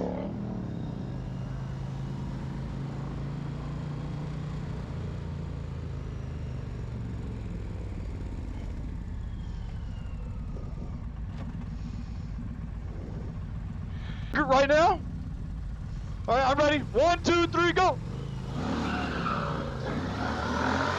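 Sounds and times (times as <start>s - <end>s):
motorcycle engines running: 0.0s - 20.9s.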